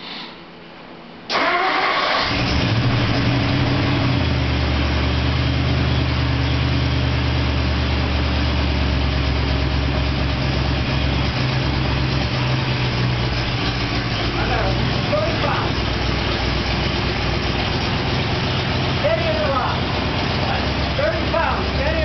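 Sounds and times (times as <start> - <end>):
pickup engine starting and idling: 1.3 - 22.0.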